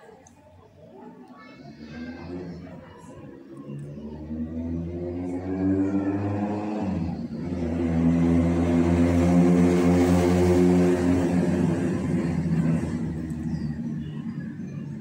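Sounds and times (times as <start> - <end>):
vehicle engine passing by: 1.6 - 15.0.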